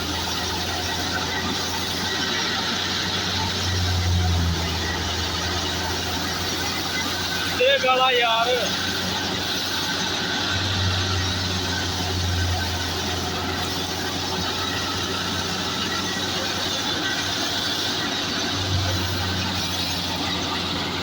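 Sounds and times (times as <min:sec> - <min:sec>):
thresher whirring hiss: 0:00.0 - 0:21.0
tractor engine humming: 0:00.0 - 0:21.0.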